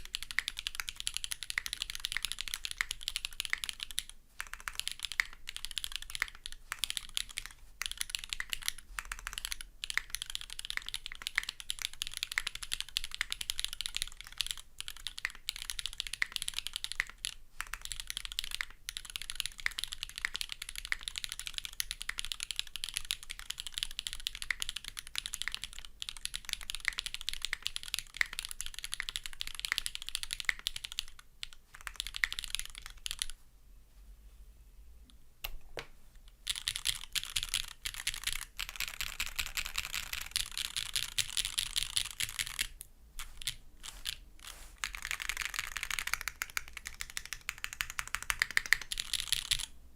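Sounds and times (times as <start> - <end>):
fast typing on mechanical keyboard: 0.0 - 33.4, 36.4 - 49.8.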